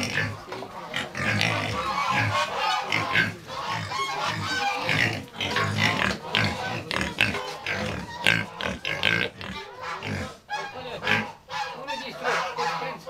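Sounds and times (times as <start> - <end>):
pigs grunting and squealing: 0.0 - 13.0.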